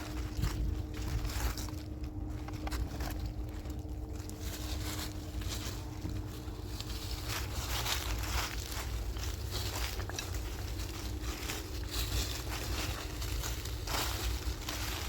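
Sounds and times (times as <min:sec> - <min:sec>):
faint hum: 0:00.0 - 0:15.0
low rumble: 0:00.0 - 0:15.0
rustling footsteps: 0:00.0 - 0:15.0.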